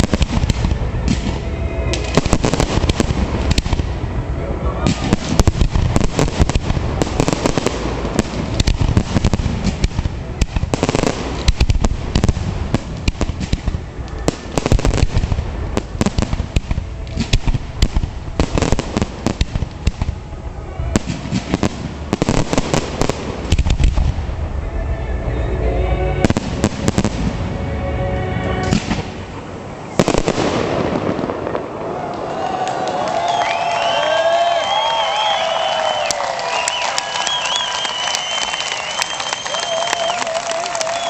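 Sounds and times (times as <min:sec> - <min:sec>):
fireworks bursting and crackling: 0:00.0 - 0:24.6, 0:26.2 - 0:27.5, 0:28.6 - 0:41.0.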